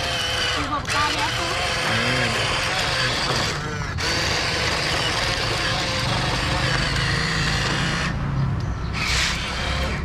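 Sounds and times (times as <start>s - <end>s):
toy truck motor whirring: 0.0s - 8.3s, 8.9s - 10.0s.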